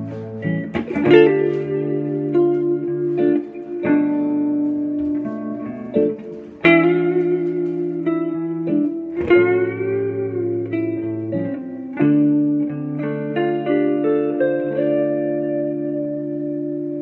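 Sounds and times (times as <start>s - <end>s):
clean electric guitar melody: 0.0s - 17.0s.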